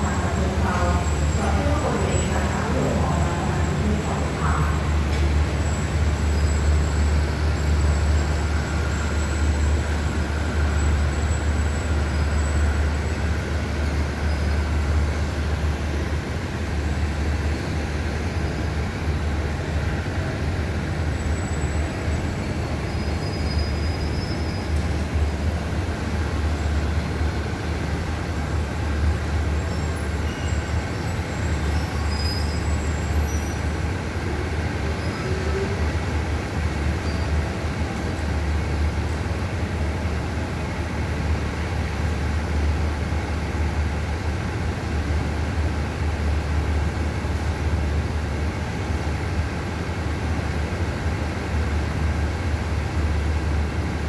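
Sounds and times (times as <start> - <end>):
diesel train engine idling: 0.0 - 54.0.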